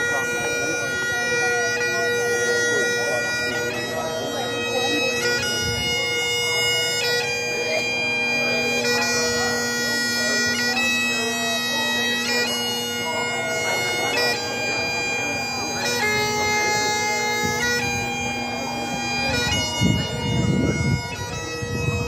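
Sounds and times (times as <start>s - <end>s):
bagpipe playing slow melody: 0.0s - 22.0s.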